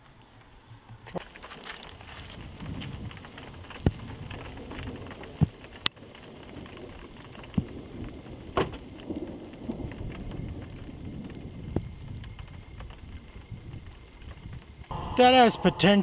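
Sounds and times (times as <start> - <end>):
raindrops tapping: 0.4 - 14.9.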